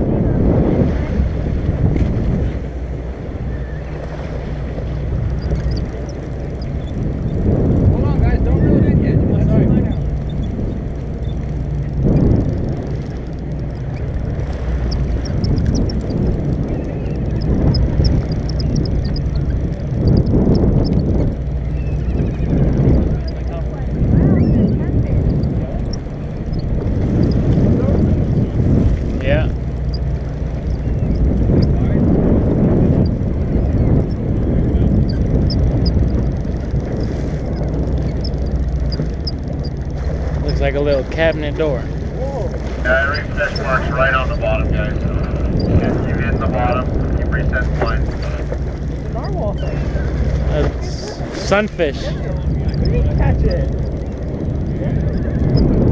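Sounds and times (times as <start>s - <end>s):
boat engine droning: 0.0s - 55.9s
water rushing along hull: 0.0s - 55.9s.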